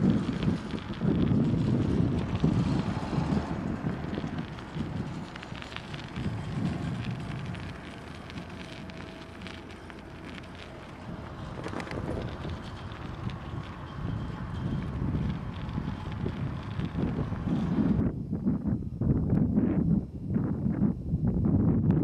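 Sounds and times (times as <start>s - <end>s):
crackles and clicks: 0.0s - 18.1s
wind buffeting microphone: 0.0s - 22.0s.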